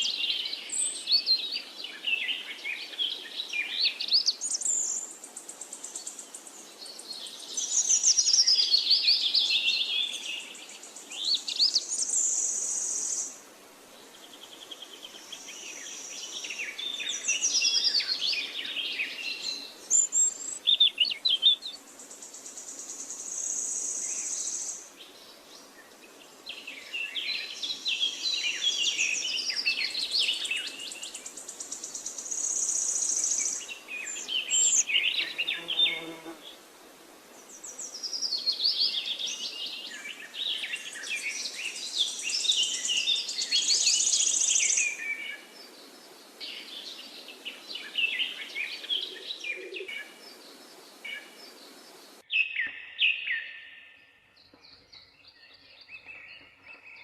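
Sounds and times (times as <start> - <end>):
background hiss: 0.0 - 52.4
songbirds singing and chirping: 0.0 - 57.0.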